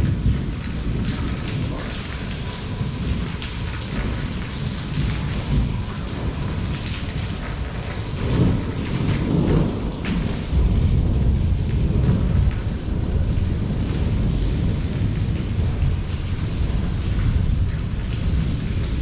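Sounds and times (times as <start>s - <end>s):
low rolling thunder: 0.0s - 19.0s
rain falling: 0.0s - 19.0s.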